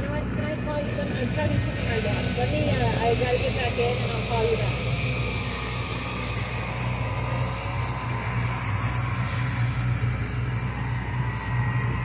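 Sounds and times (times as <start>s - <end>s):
outboard motor running: 0.0s - 12.0s
wind and water hiss: 0.0s - 12.0s.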